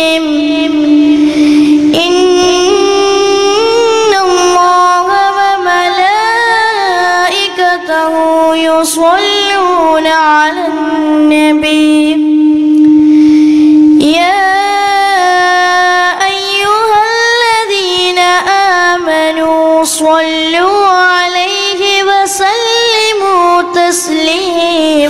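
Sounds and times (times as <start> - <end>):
boy singing into a microphone: 0.0 - 25.0.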